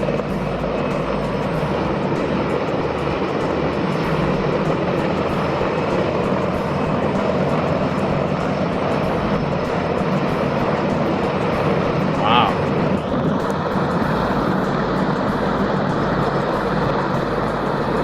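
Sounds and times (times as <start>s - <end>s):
helicopter engines and rotor: 0.0s - 18.0s.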